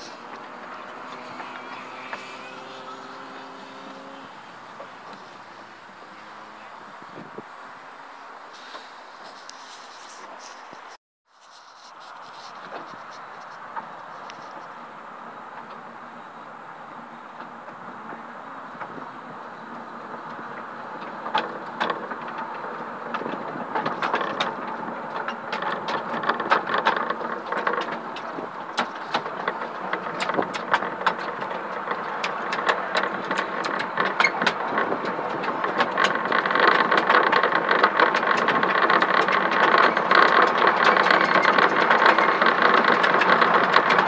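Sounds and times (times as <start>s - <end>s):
train wheels clicking over rail joints: 0.0s - 7.5s, 8.2s - 44.0s
train rattle and rumble: 0.0s - 44.0s.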